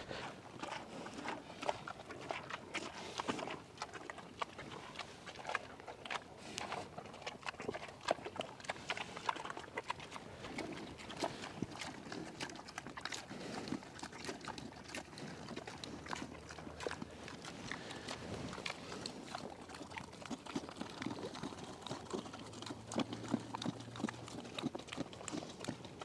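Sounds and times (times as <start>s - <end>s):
pigs grunting softly: 0.0s - 26.0s.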